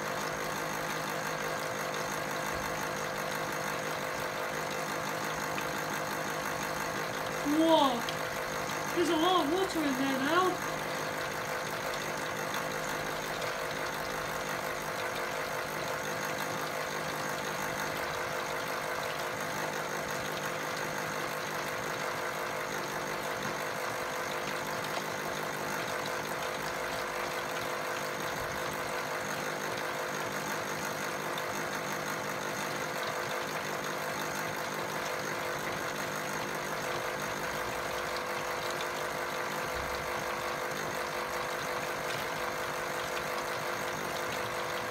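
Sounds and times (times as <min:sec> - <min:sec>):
toy washing machine motor humming: 0:00.0 - 0:44.9.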